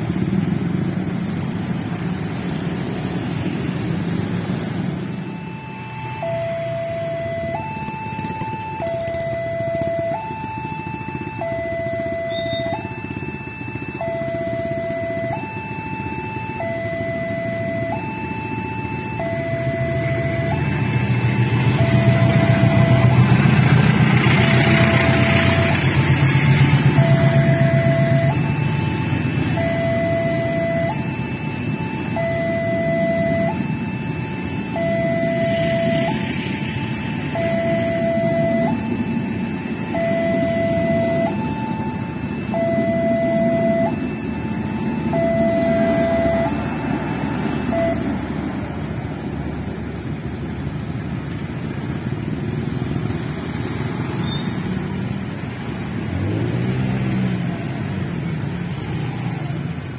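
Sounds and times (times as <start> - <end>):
motorcycles idling: 0.0 - 56.2
motorcycle engines revving: 0.0 - 59.9
two-tone crossing alarm: 0.0 - 59.9.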